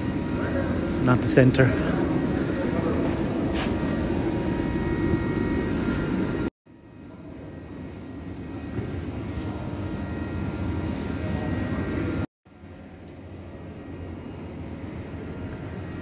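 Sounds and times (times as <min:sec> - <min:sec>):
machine noise: 0:00.0 - 0:16.0.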